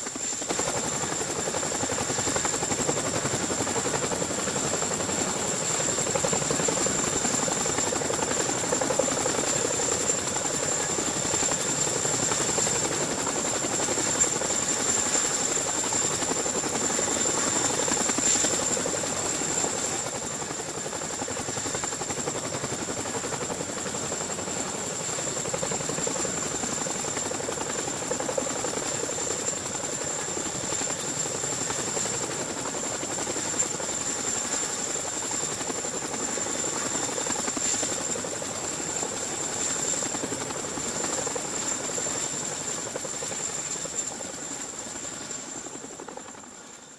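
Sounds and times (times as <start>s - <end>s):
helicopter rotor and engine noise: 0.0s - 46.9s.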